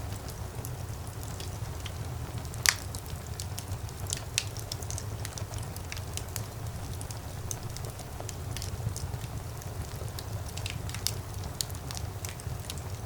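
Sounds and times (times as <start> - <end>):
fire burning: 0.0 - 13.0
fire crackling: 0.0 - 13.0.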